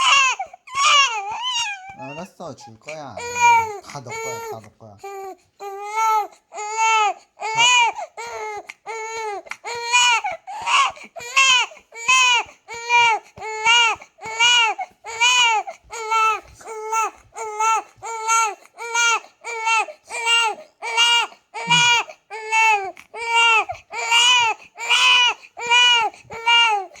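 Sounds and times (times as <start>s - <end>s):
baby crying: 0.0s - 27.0s.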